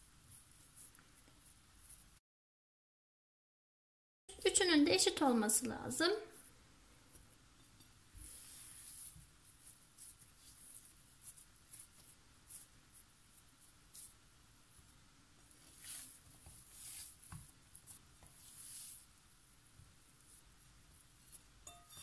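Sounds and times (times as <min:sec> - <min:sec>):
hands rolling dough in a bowl: 0:00.0 - 0:02.2, 0:04.3 - 0:22.0.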